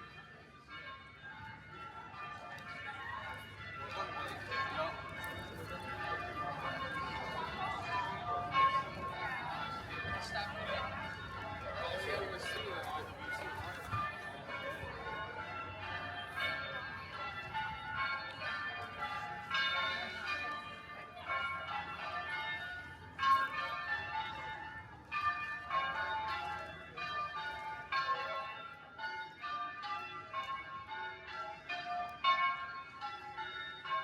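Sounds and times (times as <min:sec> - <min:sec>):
church bells ringing: 0:00.0 - 0:34.0.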